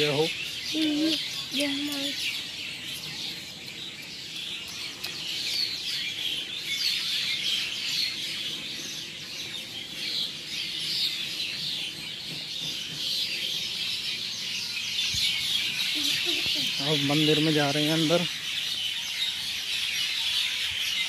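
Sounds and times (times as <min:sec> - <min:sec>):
many small birds chirping: 0:00.0 - 0:21.0.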